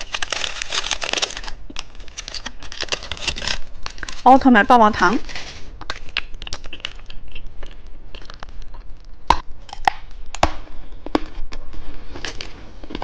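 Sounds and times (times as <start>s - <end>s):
plastic packaging clicking and crackling: 0.0s - 10.5s.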